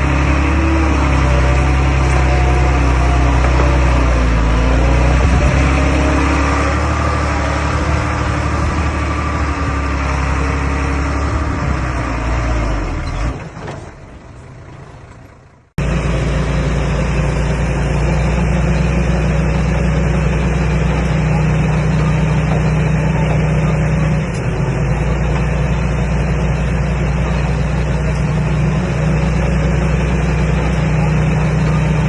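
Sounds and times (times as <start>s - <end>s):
bulldozer diesel engine working: 0.0s - 32.0s.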